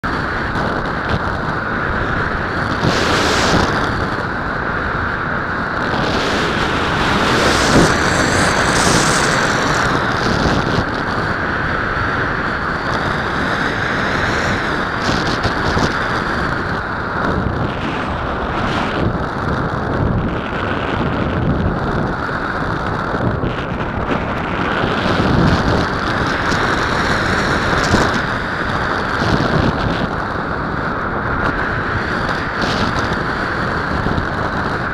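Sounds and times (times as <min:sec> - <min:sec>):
wind rushing over microphone: 0:00.0 - 0:34.9.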